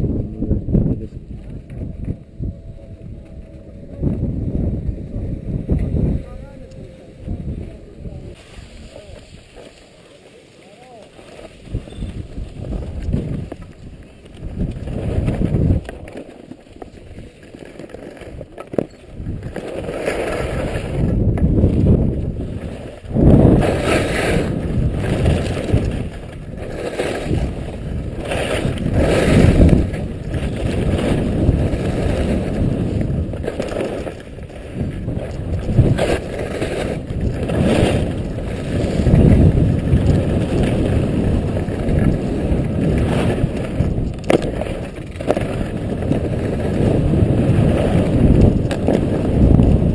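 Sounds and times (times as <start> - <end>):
wind rumbling over microphone: 0.0 - 9.6, 11.5 - 49.9.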